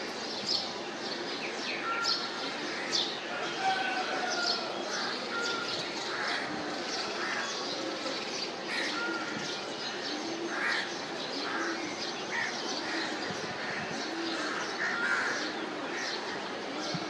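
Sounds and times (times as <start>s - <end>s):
birds calling: 0.4s - 17.0s.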